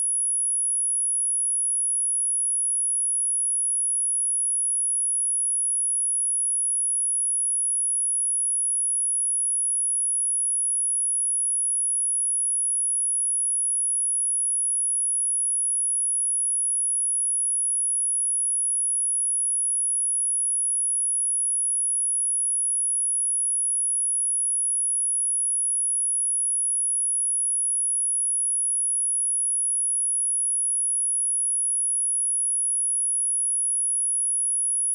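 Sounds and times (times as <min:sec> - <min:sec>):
high-pitched sine-wave test tone: 0:00.0 - 0:34.9.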